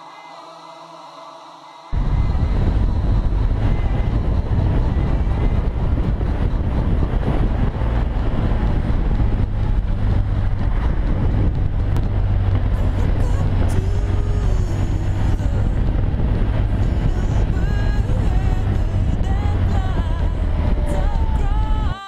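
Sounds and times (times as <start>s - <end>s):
wind noise on microphone: 1.9s - 22.0s
motorcycle engine cruising: 2.0s - 22.0s.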